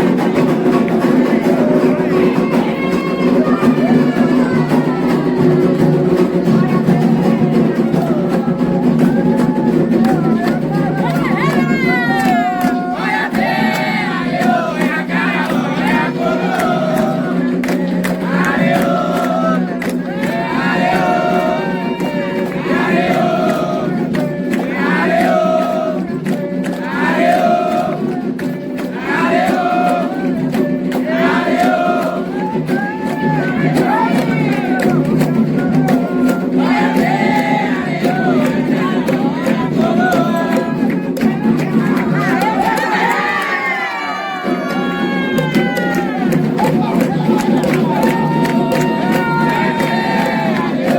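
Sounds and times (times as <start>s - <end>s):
crowd singing and shouting: 0.0s - 50.9s
drumming: 0.0s - 50.9s
group of voices chanting: 0.0s - 50.9s
sharp percussion strikes: 0.0s - 50.9s.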